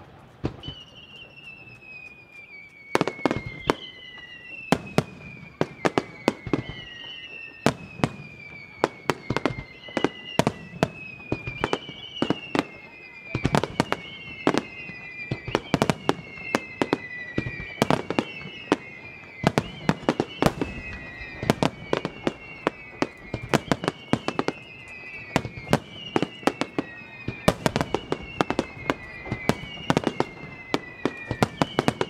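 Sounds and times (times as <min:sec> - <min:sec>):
fireworks exploding: 0:00.0 - 0:32.0
fireworks whistling: 0:00.0 - 0:32.0.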